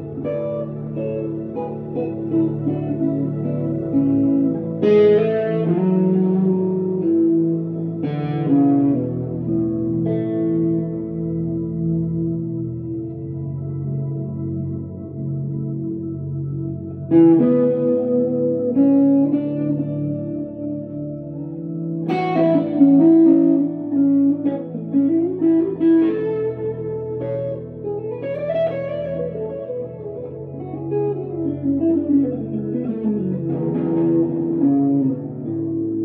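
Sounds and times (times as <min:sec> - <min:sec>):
electric guitar melody: 0:00.0 - 0:36.0.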